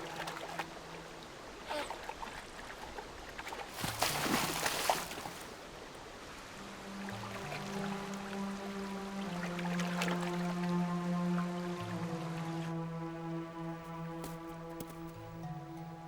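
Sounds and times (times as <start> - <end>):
soft background music: 0.0 - 2.5, 3.8 - 16.0
water splashing and trickling: 0.0 - 15.8.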